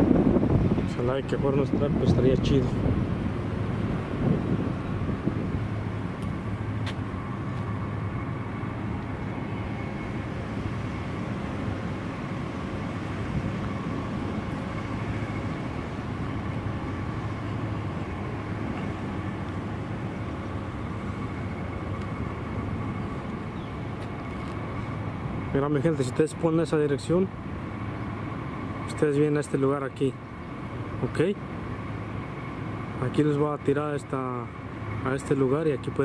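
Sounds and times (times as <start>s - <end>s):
outdoor low rumble: 0.0s - 36.0s.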